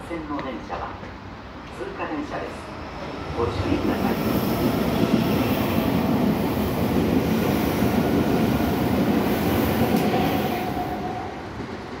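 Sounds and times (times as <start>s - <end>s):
train passing at speed: 0.5s - 12.0s.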